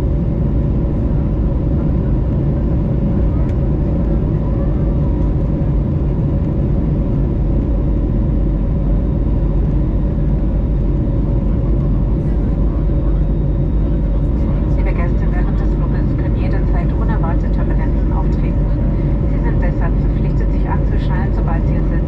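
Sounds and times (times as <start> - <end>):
jet engines at climb power: 0.0 - 22.0.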